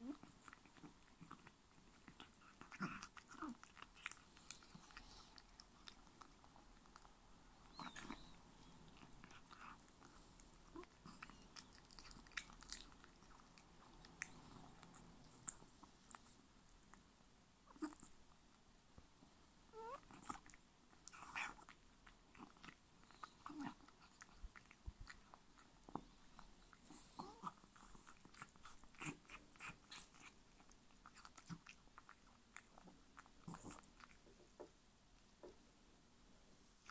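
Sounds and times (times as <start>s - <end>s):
cat chewing and smacking: 0.0s - 19.1s, 19.7s - 35.7s.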